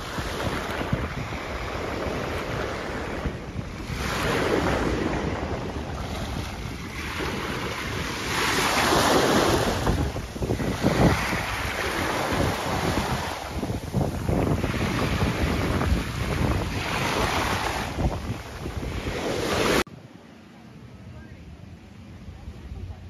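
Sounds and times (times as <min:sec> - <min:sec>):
small waves washing up beach: 0:00.0 - 0:19.9
wind buffeting microphone: 0:00.0 - 0:19.9.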